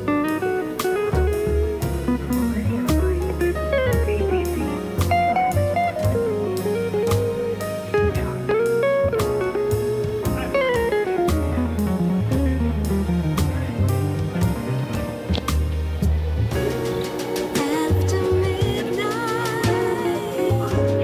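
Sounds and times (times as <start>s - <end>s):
bluesy guitar melody: 0.0s - 21.0s
steady beat: 0.0s - 21.0s.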